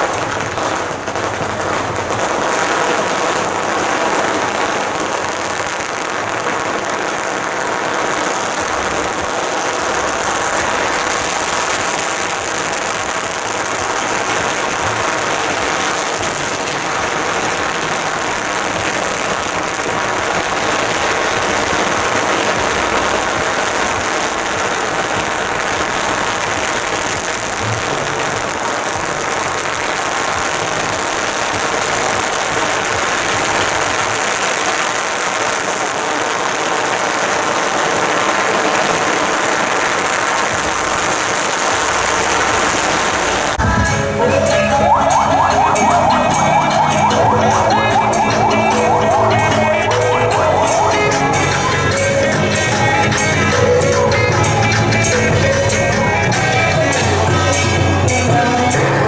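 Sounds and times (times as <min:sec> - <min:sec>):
procession crowd street noise: 0:00.0 - 0:59.0.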